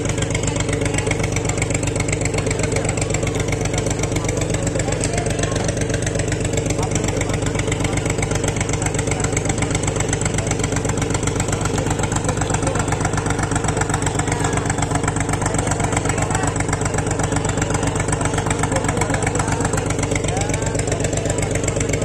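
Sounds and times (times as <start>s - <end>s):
boat engine chugging: 0.0s - 22.0s.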